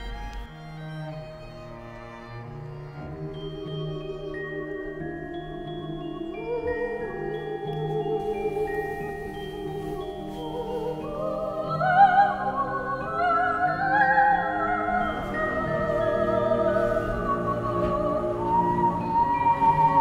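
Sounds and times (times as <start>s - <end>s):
operatic classical singing: 0.0s - 20.0s.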